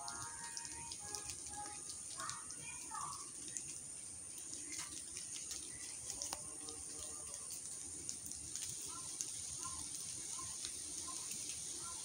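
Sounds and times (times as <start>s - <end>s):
drips from wet foliage: 0.0s - 12.0s
steady hiss: 0.0s - 12.0s.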